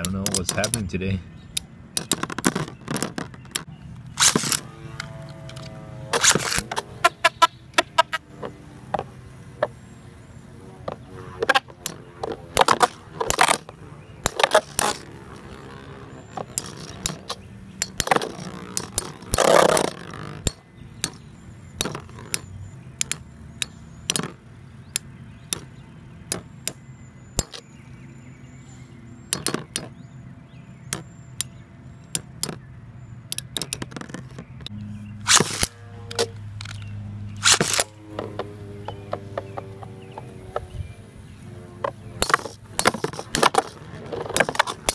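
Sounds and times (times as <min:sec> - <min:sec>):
spinning hum: 0:00.0 - 0:27.8, 0:31.0 - 0:44.9.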